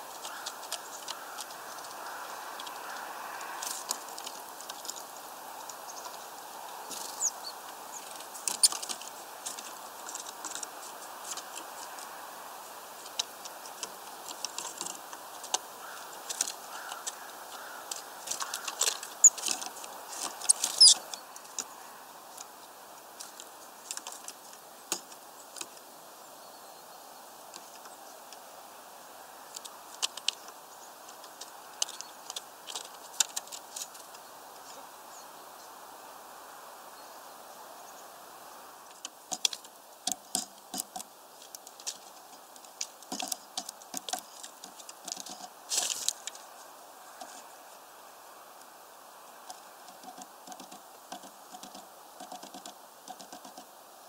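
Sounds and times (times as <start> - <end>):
birds pecking at wooden feeder: 0.0 - 26.0, 27.4 - 34.8, 38.4 - 53.9
background noise: 0.0 - 54.0.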